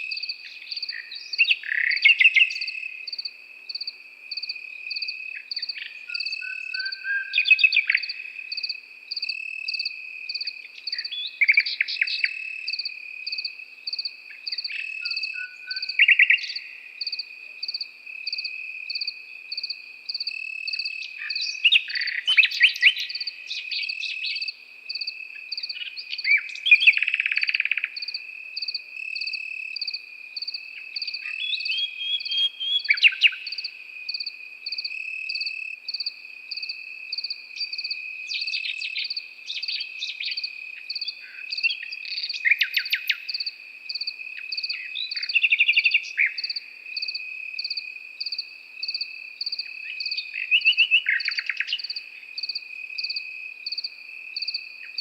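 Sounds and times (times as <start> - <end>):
cricket trill: 0.0 - 55.0
insect chirping in pulses: 0.0 - 55.0
nightingale singing: 0.0 - 55.0.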